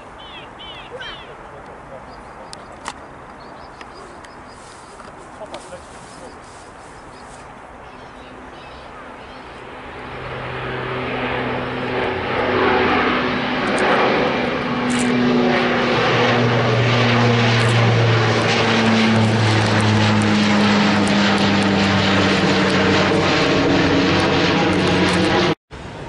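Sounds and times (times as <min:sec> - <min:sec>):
propeller plane drone: 0:00.0 - 0:26.0.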